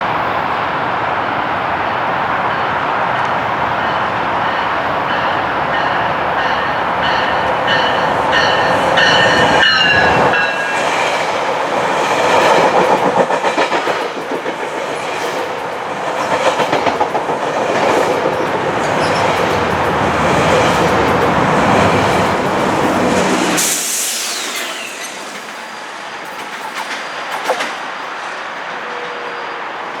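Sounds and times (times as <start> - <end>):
train rumble and wheel clatter: 0.0 - 30.0.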